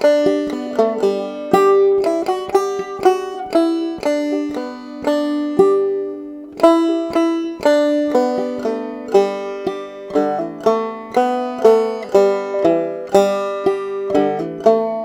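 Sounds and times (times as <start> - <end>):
banjo plucked notes: 0.0 - 15.0.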